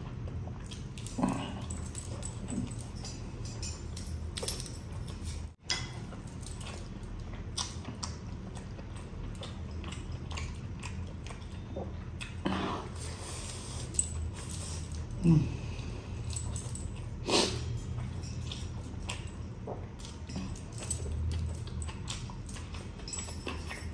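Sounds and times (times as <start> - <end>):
chewing and lip-smacking: 0.0 - 15.2, 15.8 - 23.9
steady low hum: 0.0 - 23.9.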